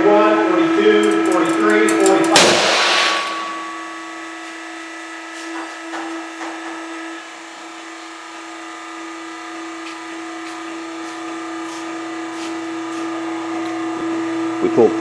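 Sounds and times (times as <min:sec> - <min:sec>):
machine motor humming: 0:00.5 - 0:14.3.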